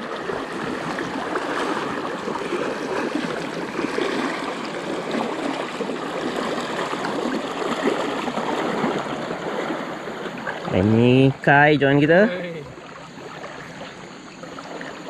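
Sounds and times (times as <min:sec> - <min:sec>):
river current rushing: 0:00.0 - 0:15.0
water sloshing around legs: 0:00.0 - 0:15.0.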